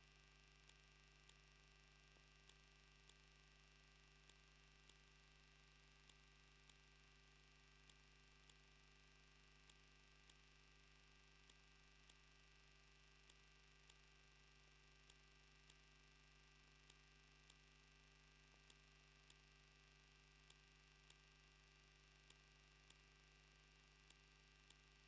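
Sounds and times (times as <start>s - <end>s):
faint electrical hum: 0.0s - 25.0s
faint regular ticks: 0.2s - 25.0s.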